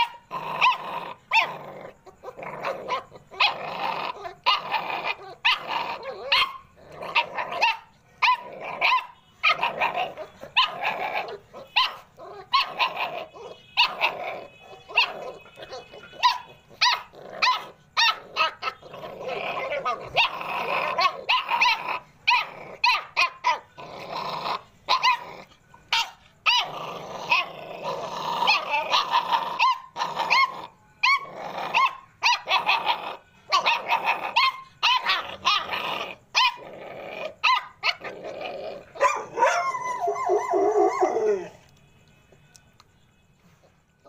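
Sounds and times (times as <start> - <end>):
dogs barking and growling: 0.0 - 41.7.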